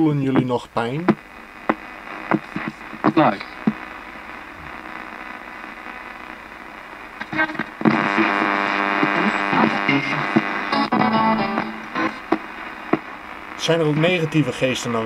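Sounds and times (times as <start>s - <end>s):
garbled radio broadcast: 0.0s - 15.0s
radio static hiss: 0.0s - 15.0s
buzzy tone: 1.1s - 15.0s.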